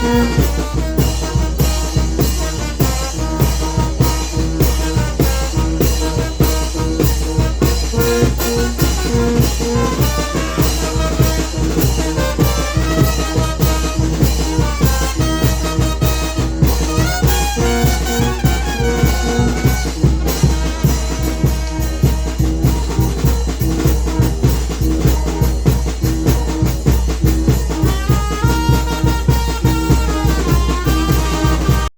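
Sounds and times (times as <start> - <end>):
bass line: 0.0 - 31.9
brass melody: 0.0 - 31.9
drums beating: 0.0 - 31.9.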